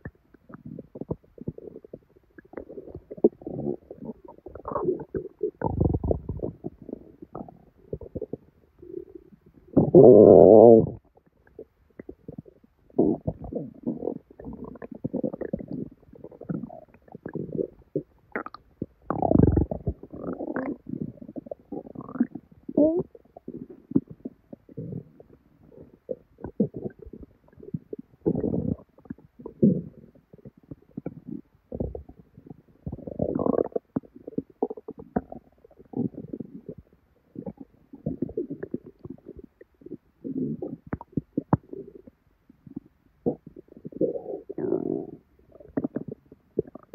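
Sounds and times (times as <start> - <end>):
stomach gurgling: 0.0 - 46.9.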